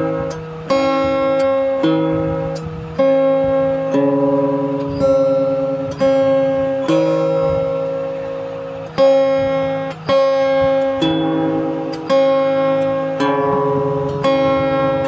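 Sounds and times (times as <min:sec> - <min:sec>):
chords struck sharply: 0:00.0 - 0:15.0.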